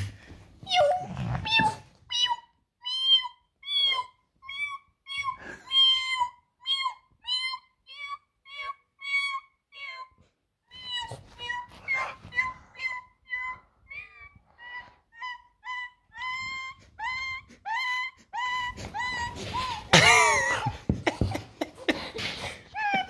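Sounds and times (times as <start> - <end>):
dog whining: 0.6 - 21.4, 22.2 - 23.0.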